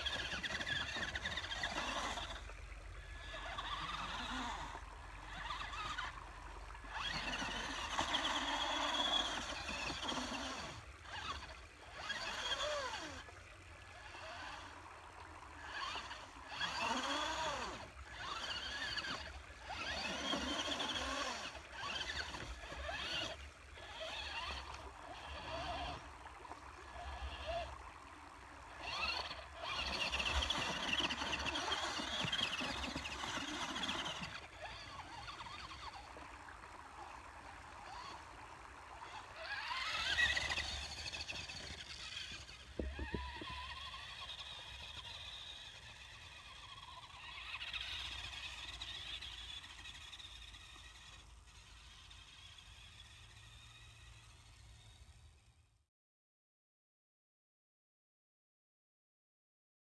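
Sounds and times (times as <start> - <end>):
toy truck electric motor whining: 0.0 - 55.8.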